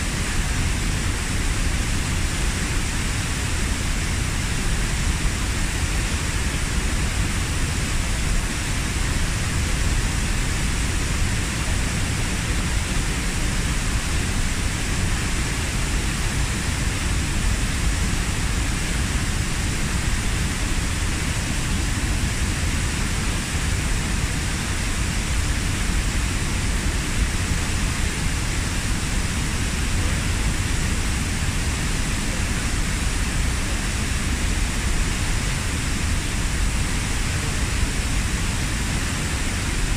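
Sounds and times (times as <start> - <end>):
waterfall water splashing: 0.0 - 39.9.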